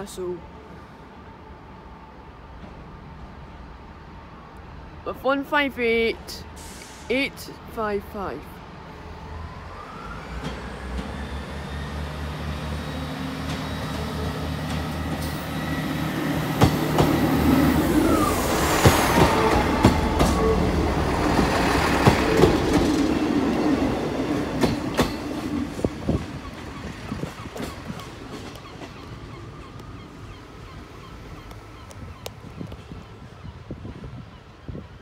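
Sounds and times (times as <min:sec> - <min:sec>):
diesel train engines: 0:00.0 - 0:35.0.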